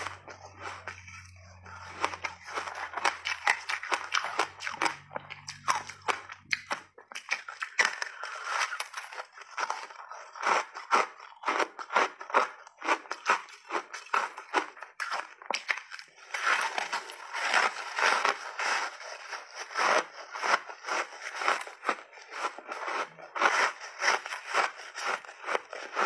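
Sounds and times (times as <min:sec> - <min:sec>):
ice crunching while chewed: 0:00.0 - 0:26.0.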